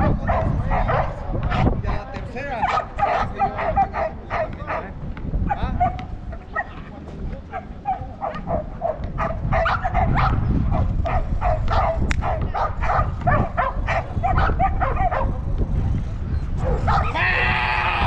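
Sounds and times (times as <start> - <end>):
dog barking: 0.0 - 1.8, 2.6 - 6.9, 7.5 - 15.5, 16.6 - 17.5
wind on microphone: 0.0 - 18.0.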